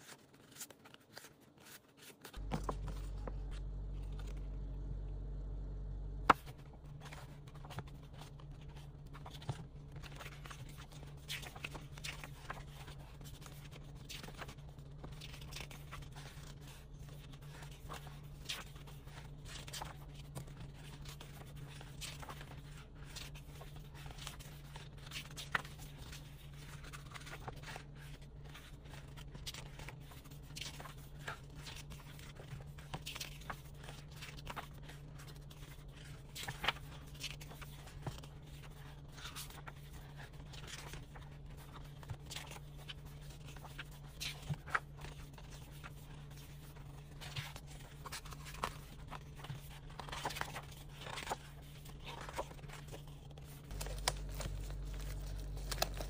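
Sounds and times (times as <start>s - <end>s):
pages turning: 0.0s - 4.7s, 6.2s - 56.0s
faint low hum: 2.2s - 56.0s.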